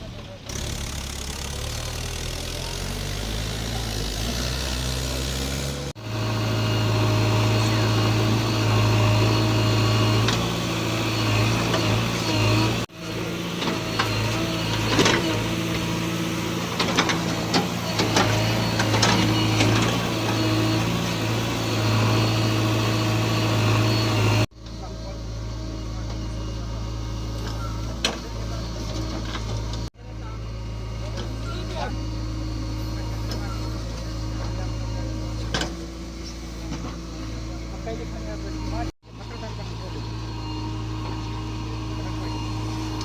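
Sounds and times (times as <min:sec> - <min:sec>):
heavy diesel engines running: 0:00.0 - 0:43.0.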